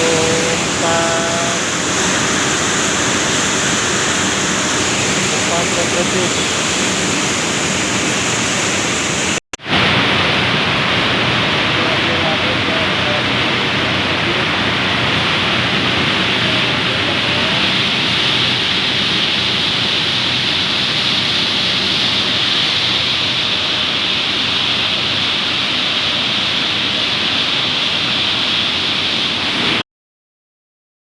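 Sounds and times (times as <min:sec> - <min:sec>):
processing machinery running: 0:00.0 - 0:29.8.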